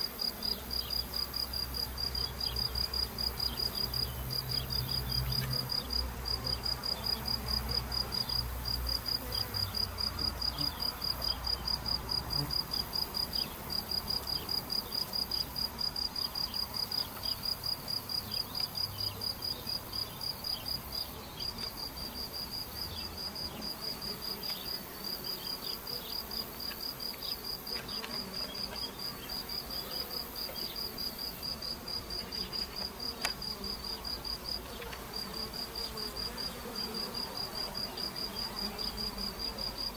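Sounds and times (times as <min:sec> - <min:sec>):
bees humming: 0:00.0 - 0:39.9
cricket chirping: 0:00.0 - 0:39.9.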